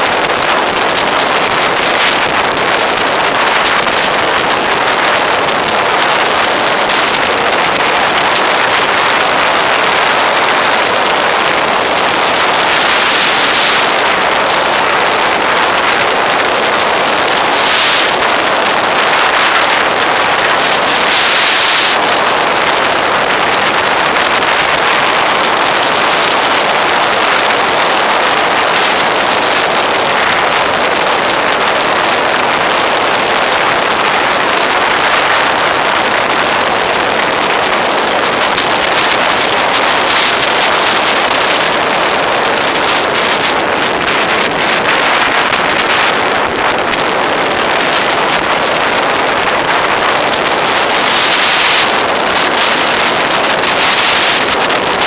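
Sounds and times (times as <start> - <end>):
wind hissing over microphone: 0.0 - 55.0.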